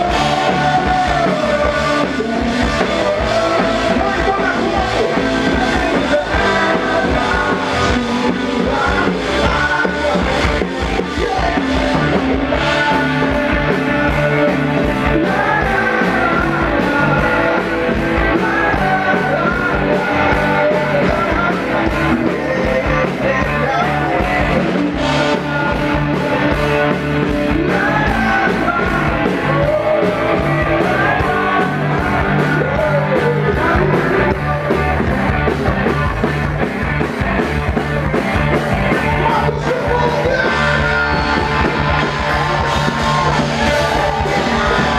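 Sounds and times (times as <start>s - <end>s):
person singing: 0.0s - 35.2s, 37.8s - 44.9s
rock band playing live: 0.0s - 44.9s.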